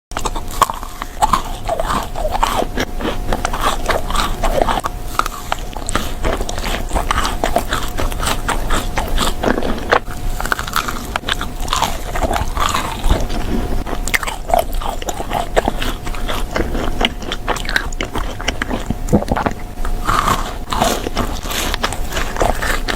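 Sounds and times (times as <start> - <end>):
person biting and chewing food: 0.1 - 22.9.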